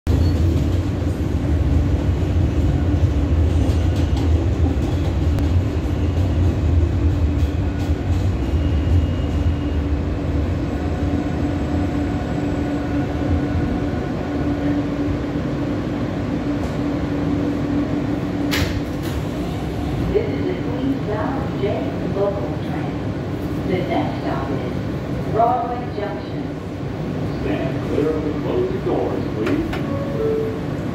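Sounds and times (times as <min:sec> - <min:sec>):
subway car rumble and hum: 0:00.0 - 0:30.9.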